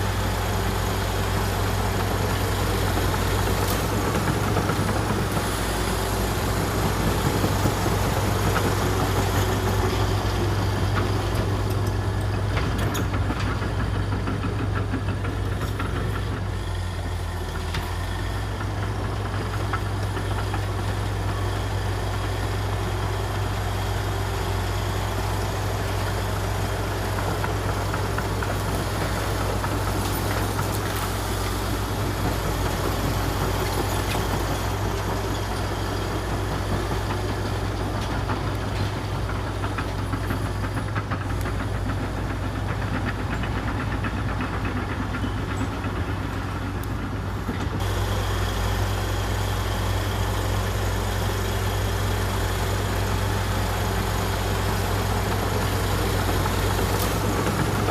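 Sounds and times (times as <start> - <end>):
bulldozer diesel engine droning: 0.0 - 57.9.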